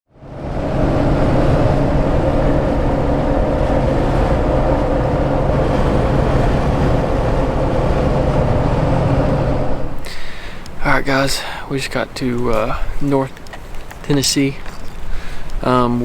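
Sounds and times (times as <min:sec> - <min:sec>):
vehicle engine and road noise: 0:00.1 - 0:16.0.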